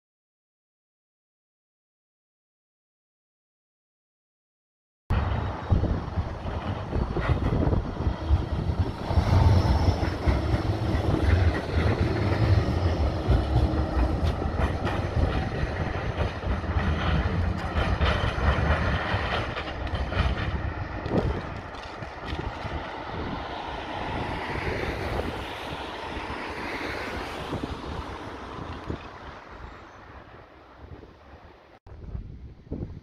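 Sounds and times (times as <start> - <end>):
tram wheels rumbling on rails: 5.1 - 31.8.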